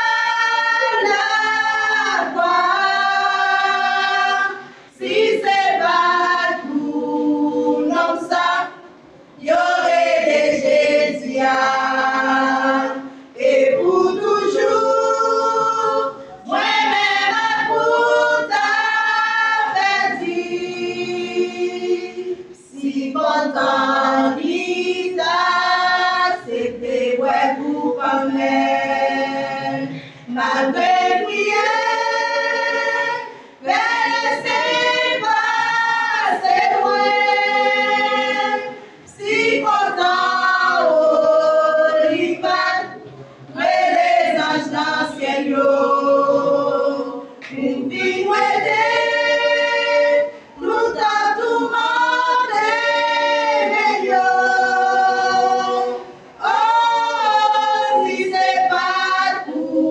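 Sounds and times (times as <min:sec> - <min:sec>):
a cappella choir singing: 0:00.0 - 0:59.9.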